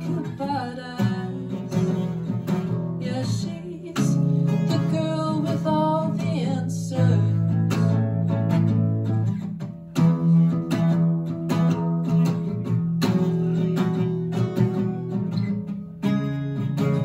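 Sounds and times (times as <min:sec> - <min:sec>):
strummed guitar chords: 0:00.0 - 0:17.0.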